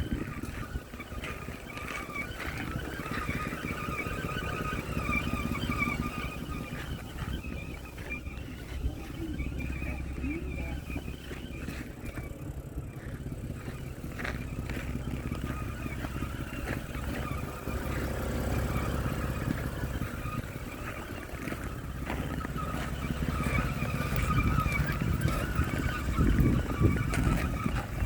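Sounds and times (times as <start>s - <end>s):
car engine running: 0.0s - 28.0s
wavering engine whine: 0.0s - 28.0s.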